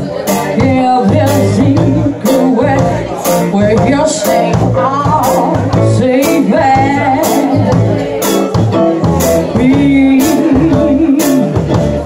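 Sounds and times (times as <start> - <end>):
drum and cymbal hits: 0.0 - 12.0
live rock band playing: 0.0 - 12.0
person singing: 0.0 - 12.0.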